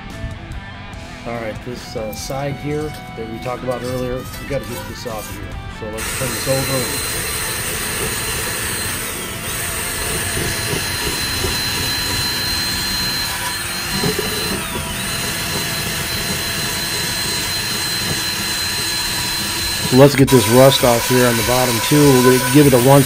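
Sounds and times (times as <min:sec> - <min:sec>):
drill motor high whine: 0:01.3 - 0:23.0
abrasive disc scrubbing iron: 0:01.9 - 0:23.0.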